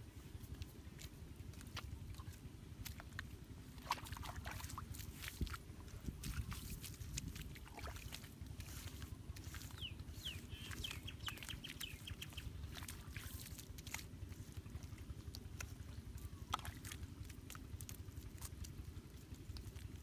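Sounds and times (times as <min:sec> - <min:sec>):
steady low rumble: 0:00.0 - 0:20.0
bare feet treading mud: 0:00.3 - 0:20.0
hands patting wet mud: 0:00.3 - 0:20.0.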